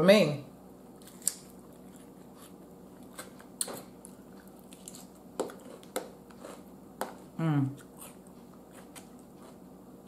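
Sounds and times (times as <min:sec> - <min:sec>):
person chewing: 0:01.0 - 0:09.8.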